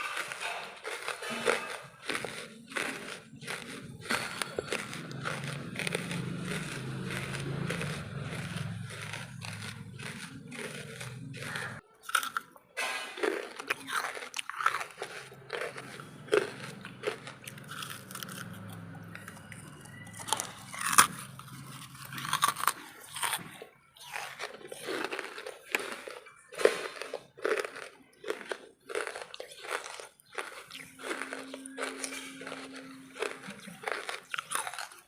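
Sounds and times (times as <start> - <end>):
charcoal crunching when chewed: 0.0 - 35.0.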